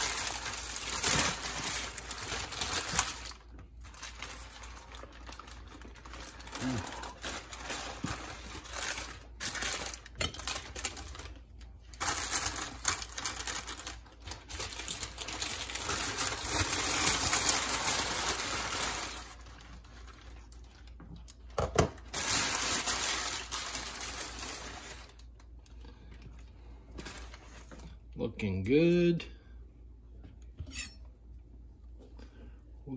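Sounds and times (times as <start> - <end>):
paper wrap crinkling: 0.0 - 28.0.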